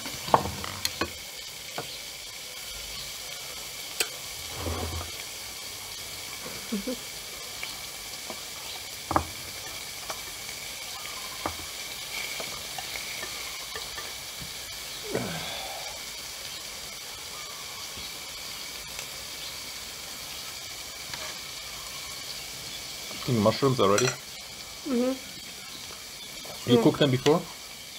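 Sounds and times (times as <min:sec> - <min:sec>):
meat sizzling on a grill pan: 0:00.0 - 0:27.9.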